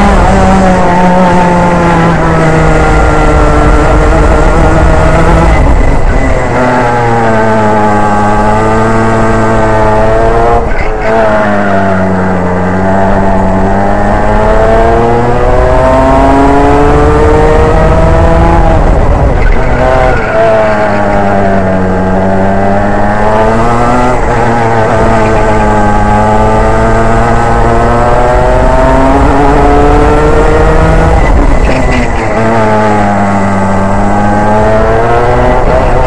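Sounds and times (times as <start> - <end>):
racing kart engine revving: 0.0 - 36.0.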